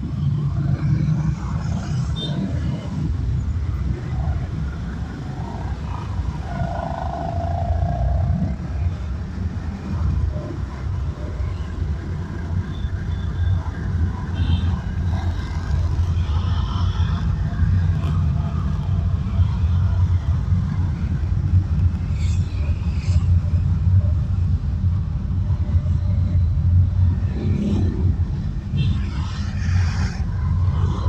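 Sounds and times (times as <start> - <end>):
road noise rumble: 0.0 - 31.0.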